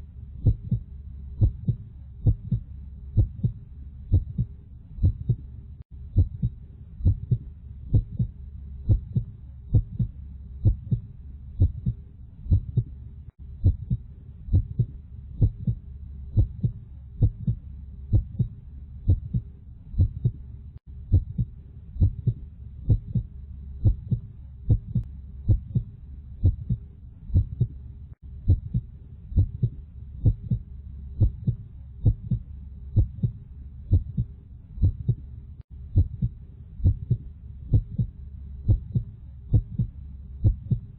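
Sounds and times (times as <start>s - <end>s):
continuous low hum: 0.0s - 40.9s
heartbeat thumps: 0.4s - 27.8s, 28.4s - 35.3s, 35.9s - 40.9s.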